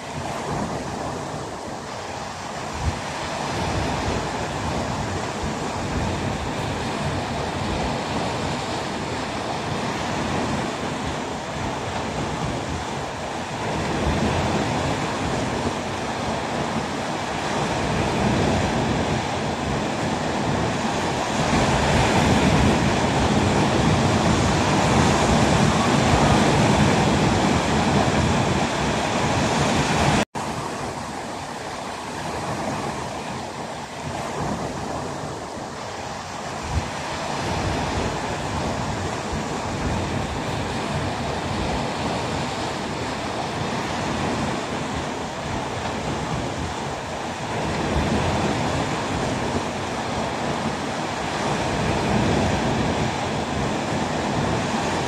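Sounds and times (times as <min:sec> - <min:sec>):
sea waves: 0:00.0 - 0:55.0
wind on microphone: 0:00.0 - 0:55.0.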